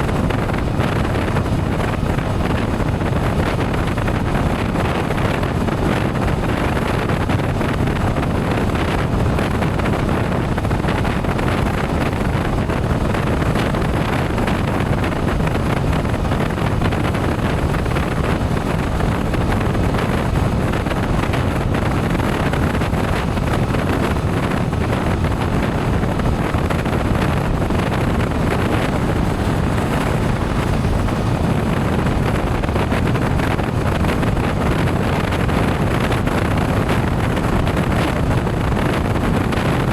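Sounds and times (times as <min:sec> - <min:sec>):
motorcycle road and engine noise: 0:00.0 - 0:39.9
wind rush on microphone: 0:00.0 - 0:39.9.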